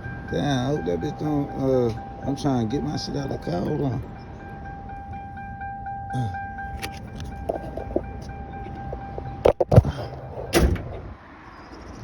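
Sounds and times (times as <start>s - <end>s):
car door warning chime: 0.0s - 9.7s.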